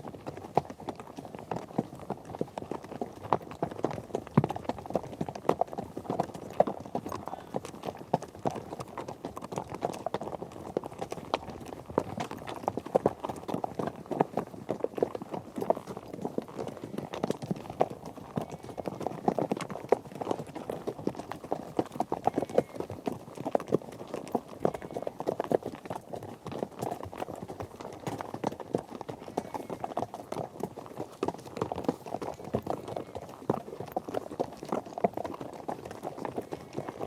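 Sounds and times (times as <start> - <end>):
galloping horse hoofbeats: 0.0 - 37.0.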